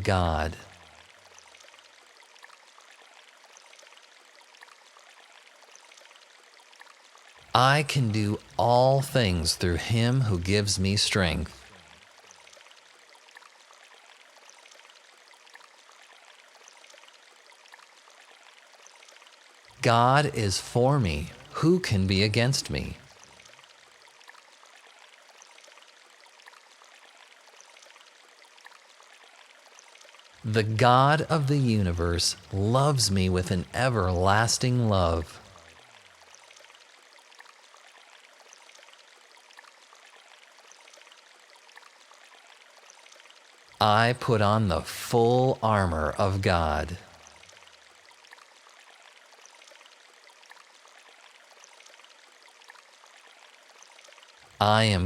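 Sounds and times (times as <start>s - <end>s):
stream babbling: 0.0s - 16.8s, 17.4s - 55.0s
faint running water: 0.0s - 55.0s.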